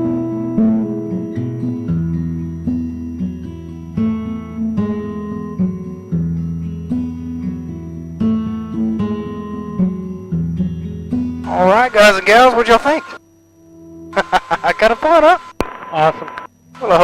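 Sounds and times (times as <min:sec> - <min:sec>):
acoustic guitar music: 0:00.0 - 0:15.5.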